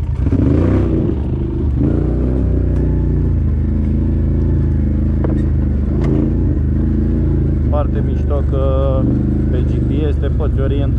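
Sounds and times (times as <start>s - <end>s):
atv engine running: 0.0s - 10.9s.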